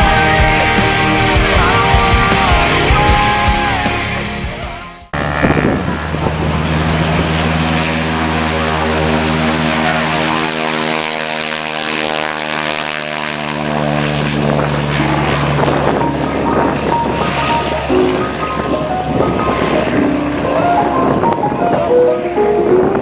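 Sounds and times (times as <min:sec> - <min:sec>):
propeller airplane engine: 0:00.0 - 0:23.0.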